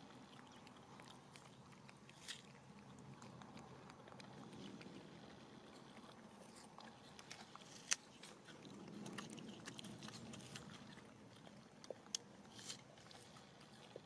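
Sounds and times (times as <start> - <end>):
monkey chewing fruit: 0.0 - 14.0.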